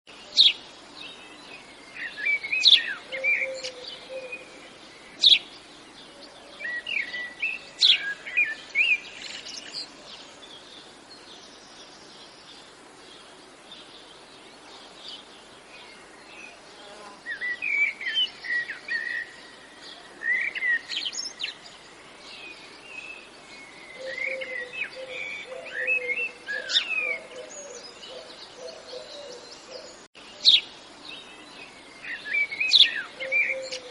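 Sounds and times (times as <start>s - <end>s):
birds chirping and trilling: 0.1s - 33.9s
faint steady hiss: 0.1s - 33.9s.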